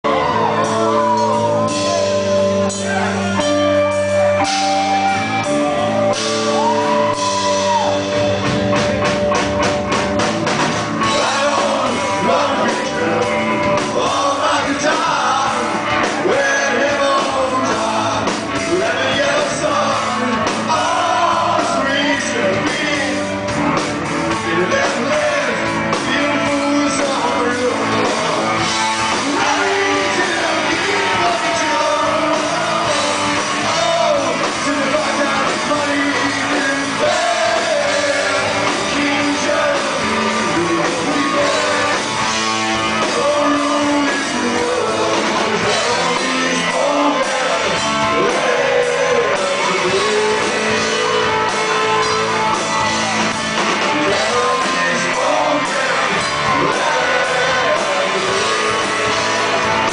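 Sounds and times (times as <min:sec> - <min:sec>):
drums: 0:00.0 - 0:59.9
live rock band playing: 0:00.0 - 0:59.9
person singing: 0:11.0 - 0:23.6, 0:24.3 - 0:59.9.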